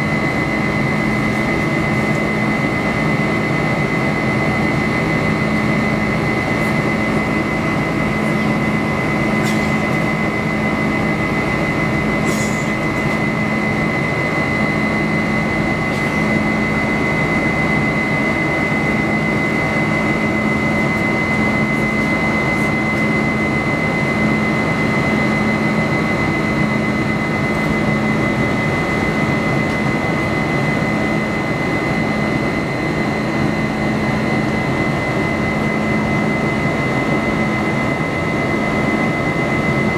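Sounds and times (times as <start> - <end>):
high fan whine: 0.0 - 39.9
jet engines rushing in cabin: 0.0 - 39.9.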